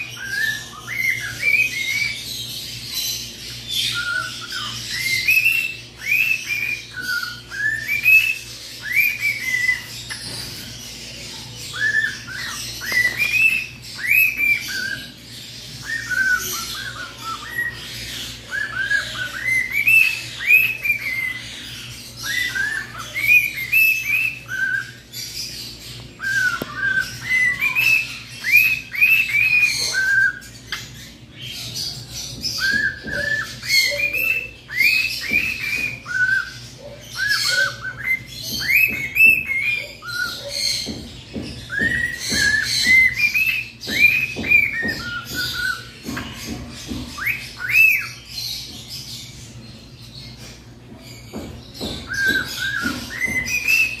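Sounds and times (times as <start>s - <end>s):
cockatiel whistling a tune: 0.0s - 2.5s, 3.6s - 10.1s, 11.7s - 15.2s, 15.8s - 25.0s, 26.2s - 30.9s, 31.8s - 48.3s, 51.8s - 54.0s.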